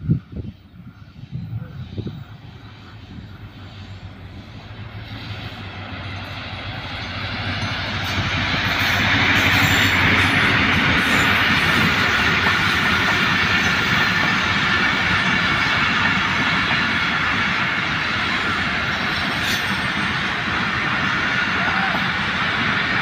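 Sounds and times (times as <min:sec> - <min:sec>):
locomotive engine drone: 0:00.0 - 0:23.0
train wheels rumbling on rail: 0:00.0 - 0:23.0.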